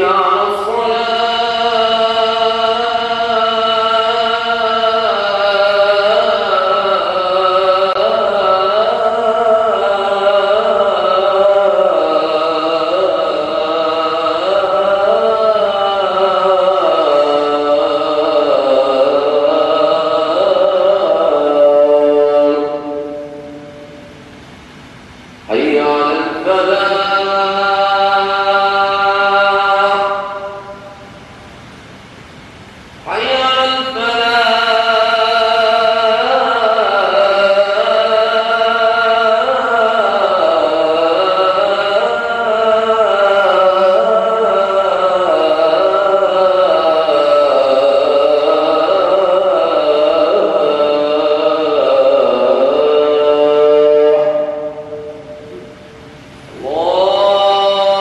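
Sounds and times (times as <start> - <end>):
man chanting: 0.0 - 24.1, 25.5 - 31.2, 33.0 - 58.0.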